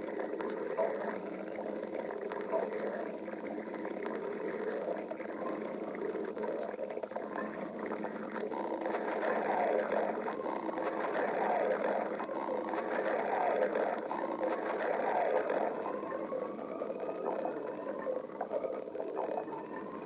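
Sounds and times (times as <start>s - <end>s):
stomach growling: 0.0s - 20.0s.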